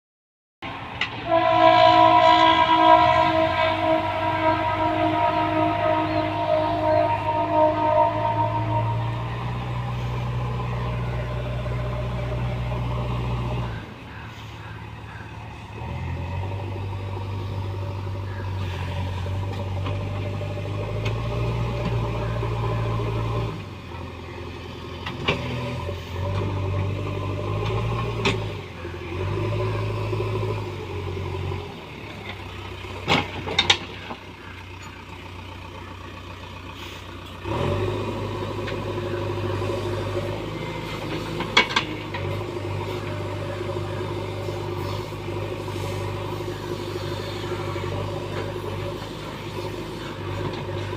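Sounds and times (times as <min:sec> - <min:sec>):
diesel engine running: 0:00.6 - 0:50.9.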